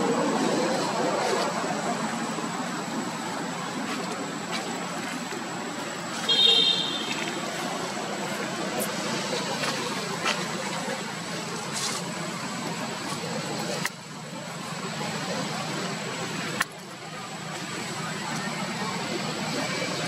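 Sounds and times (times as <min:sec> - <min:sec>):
road traffic: 0:00.0 - 0:20.0
vehicle engine running: 0:00.0 - 0:20.0.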